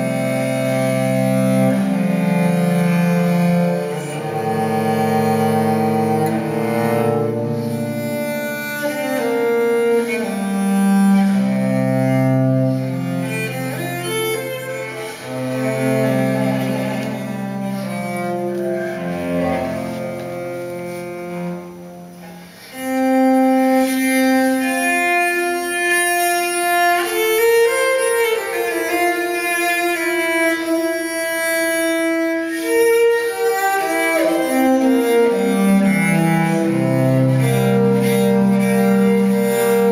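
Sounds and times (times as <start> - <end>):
classical string music on loudspeakers: 0.0 - 39.9.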